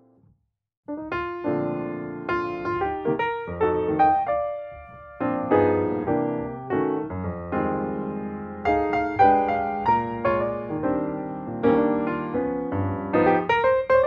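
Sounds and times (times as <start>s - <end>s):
piano music: 0.9s - 14.0s.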